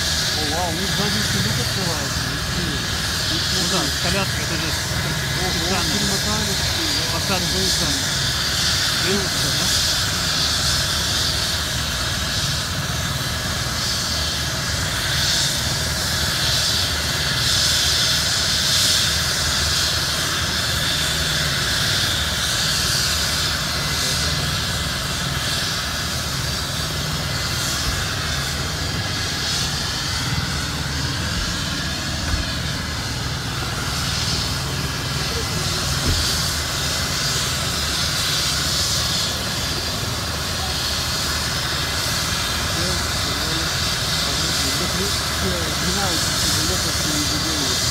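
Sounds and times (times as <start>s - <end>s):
helicopter rotor noise: 0.0s - 47.9s
helicopter turbine whine: 0.0s - 47.9s.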